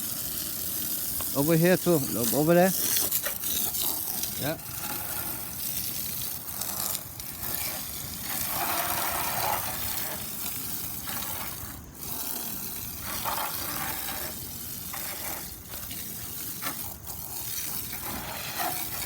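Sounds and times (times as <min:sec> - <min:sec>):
water spraying: 0:00.0 - 0:19.0.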